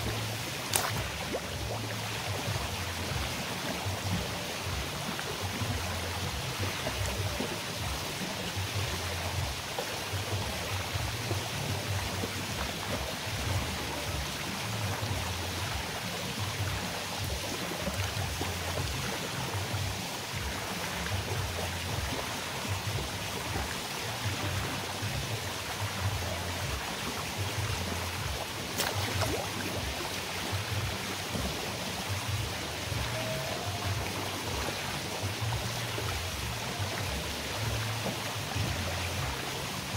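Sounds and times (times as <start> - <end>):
faint music: 0.0 - 39.9
pool water splashing and rushing: 0.0 - 39.9.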